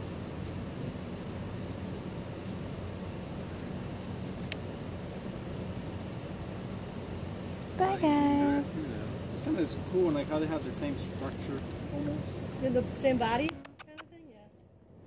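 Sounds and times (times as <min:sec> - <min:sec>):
cricket chirping: 0:00.4 - 0:12.2, 0:13.7 - 0:14.9.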